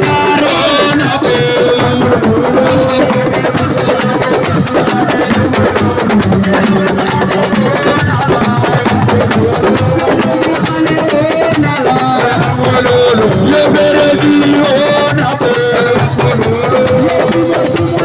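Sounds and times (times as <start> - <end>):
fast drumming: 0.0 - 18.0.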